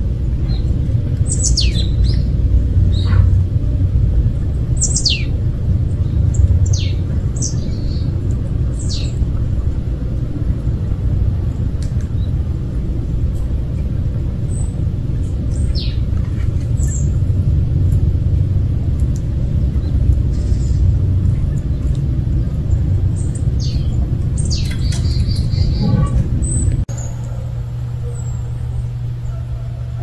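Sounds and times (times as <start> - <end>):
falling bird calls: 0.0 - 30.0
steady low rumble: 0.0 - 30.0.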